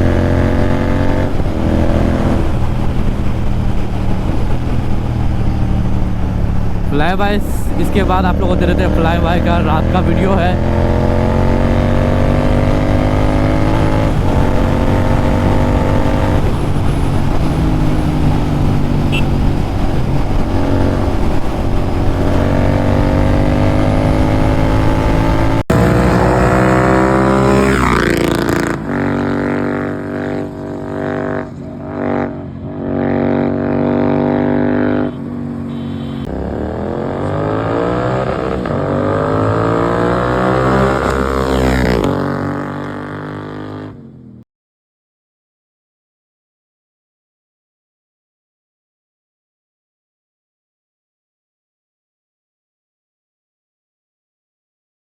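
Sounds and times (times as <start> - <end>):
motorcycle engine revving: 0.0 - 44.4.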